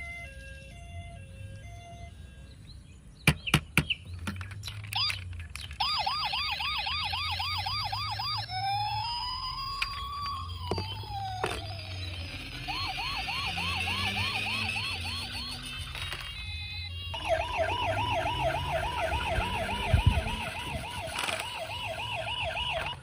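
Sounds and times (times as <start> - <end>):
toy electronic siren: 0.0 - 2.5, 4.9 - 23.0.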